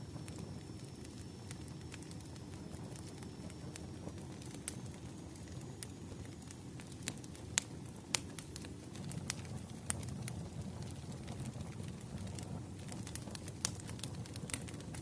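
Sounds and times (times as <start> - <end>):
wood fire crackling: 0.0 - 15.0
fire pops: 0.1 - 15.0.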